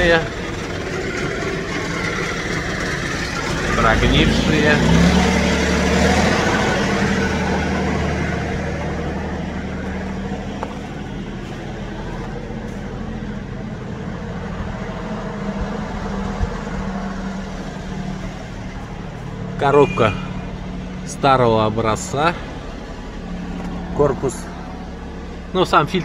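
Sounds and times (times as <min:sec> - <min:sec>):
large engine idling: 0:00.0 - 0:26.0.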